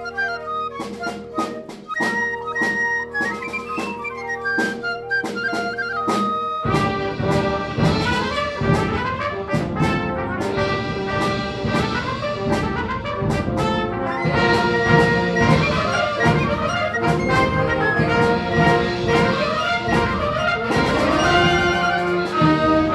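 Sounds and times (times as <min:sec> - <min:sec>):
concert band playing: 0:00.0 - 0:22.9.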